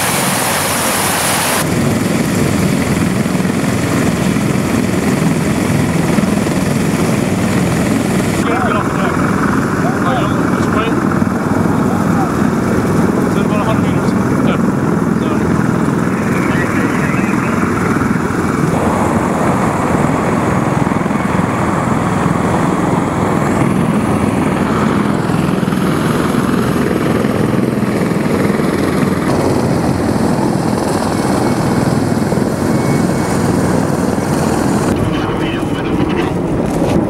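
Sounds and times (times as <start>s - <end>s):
helicopter rotor and turbine: 0.0s - 37.0s.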